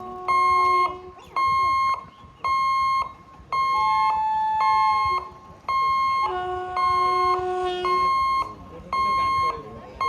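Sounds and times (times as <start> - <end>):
long held tones: 0.0 - 10.0
warning buzzer beeping: 0.0 - 10.0.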